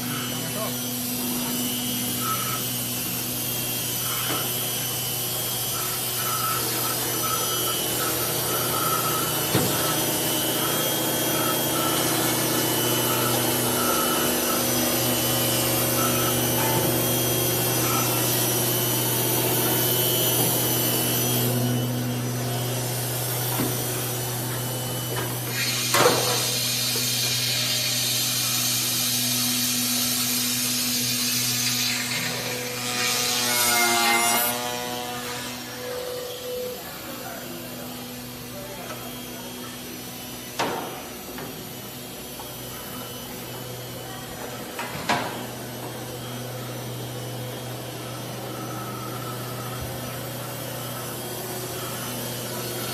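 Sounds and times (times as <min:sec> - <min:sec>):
router spindle humming: 0:00.0 - 0:52.9.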